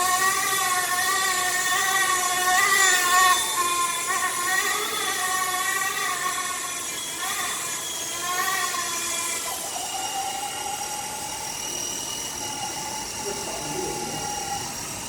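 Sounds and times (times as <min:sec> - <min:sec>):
model helicopter motor whining: 0:00.0 - 0:15.0.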